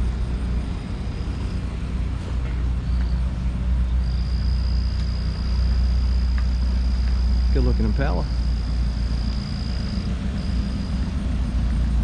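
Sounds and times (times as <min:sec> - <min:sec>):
high-pitched whine: 0:00.0 - 0:12.0
low outdoor rumble: 0:00.0 - 0:12.0.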